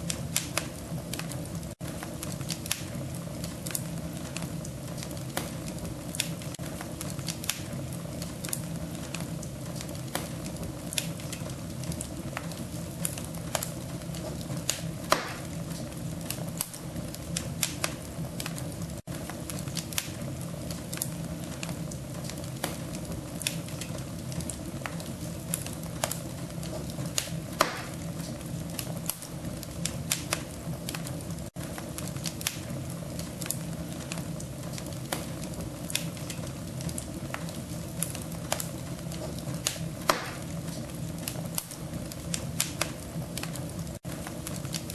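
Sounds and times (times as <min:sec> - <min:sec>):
wood crackling in a stove: 0:00.0 - 0:44.9.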